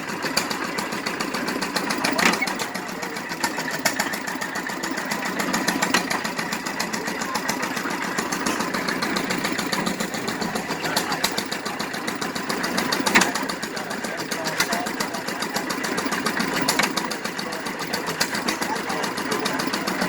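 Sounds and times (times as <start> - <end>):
engine running with fast beat: 0.0 - 20.0.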